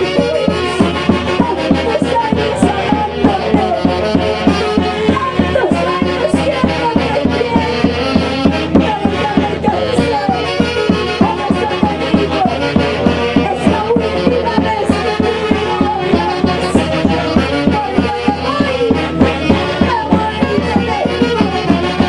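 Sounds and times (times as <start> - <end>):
live band instrumental music: 0.0 - 22.0.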